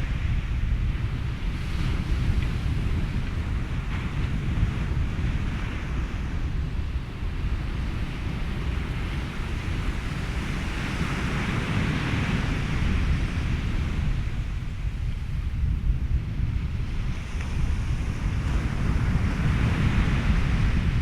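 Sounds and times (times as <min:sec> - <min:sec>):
deep constant rumble: 0:00.0 - 0:21.0
ocean waves washing: 0:00.0 - 0:21.0
wind: 0:00.0 - 0:21.0.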